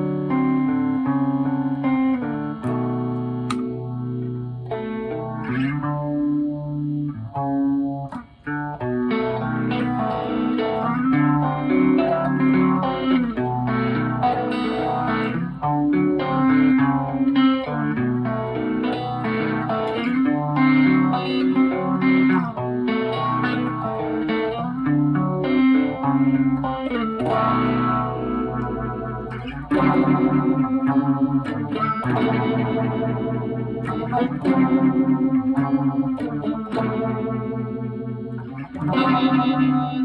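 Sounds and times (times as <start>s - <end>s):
electric guitar with phaser: 0.0s - 40.0s.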